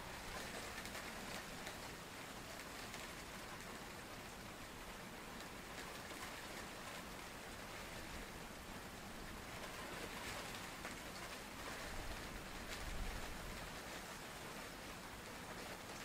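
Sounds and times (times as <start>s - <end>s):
rain falling on a pond: 0.0s - 16.0s.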